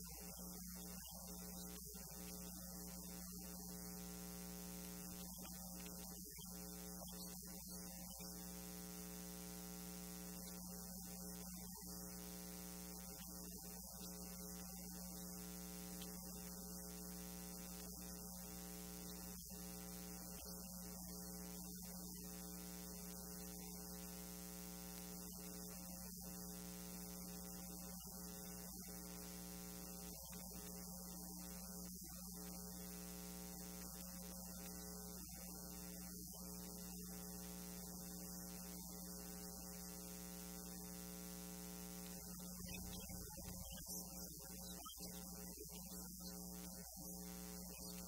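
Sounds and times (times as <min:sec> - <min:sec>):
electrical mains hum: 0:00.0 - 0:48.0.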